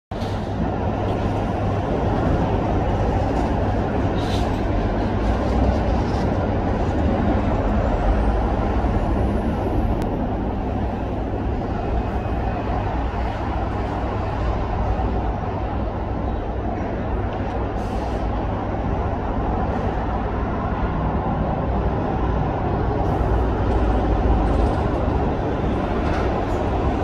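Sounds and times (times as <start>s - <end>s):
traffic rumble and hiss: 0.1s - 27.0s.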